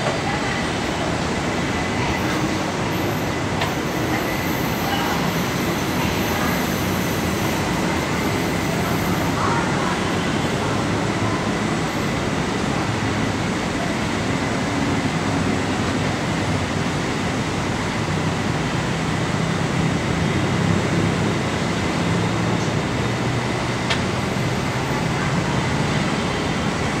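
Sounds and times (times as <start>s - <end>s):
elevated metro train running: 0.0s - 27.0s
heavy road traffic: 0.0s - 27.0s.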